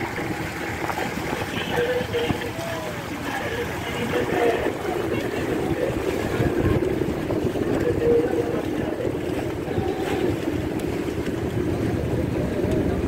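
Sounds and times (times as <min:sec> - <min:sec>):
motorboat engine: 0:00.0 - 0:13.0
water noise: 0:00.0 - 0:13.0
wind: 0:00.0 - 0:13.0.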